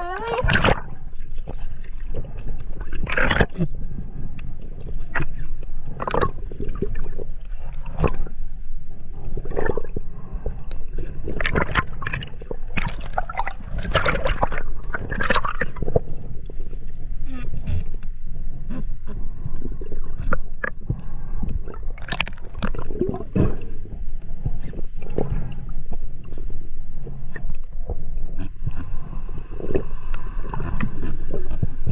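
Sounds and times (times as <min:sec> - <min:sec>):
low underwater rumble: 0:00.0 - 0:31.9
water gurgling: 0:00.0 - 0:31.9.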